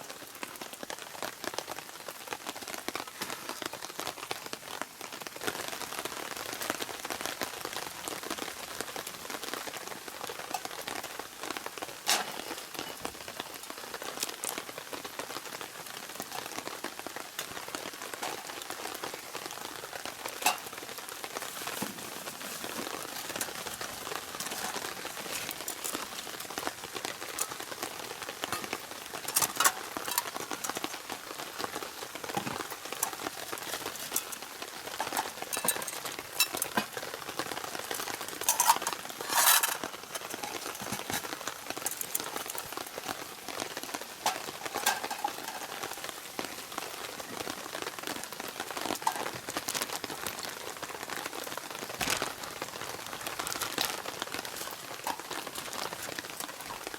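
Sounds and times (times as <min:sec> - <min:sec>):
rain falling: 0:00.0 - 0:56.9
raindrops tapping and dripping: 0:00.0 - 0:56.9.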